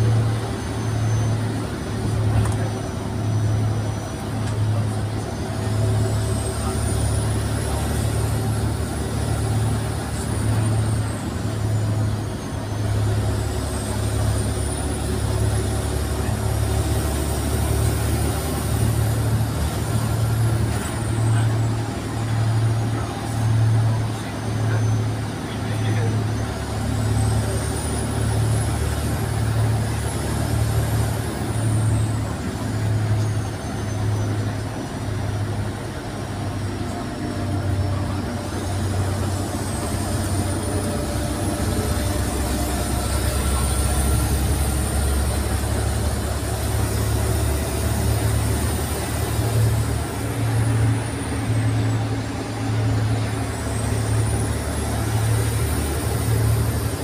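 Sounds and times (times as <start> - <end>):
bus engine and road noise drone: 0.0 - 57.0.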